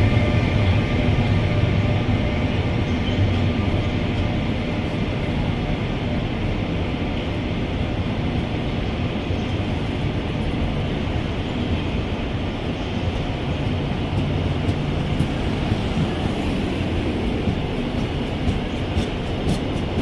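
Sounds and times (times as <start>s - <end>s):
train wheels rolling on rails: 0.0s - 20.0s.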